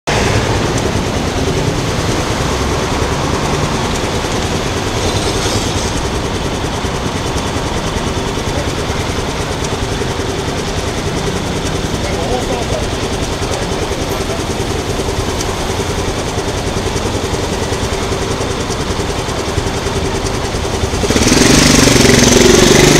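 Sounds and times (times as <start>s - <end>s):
road traffic rumble: 0.0s - 22.9s.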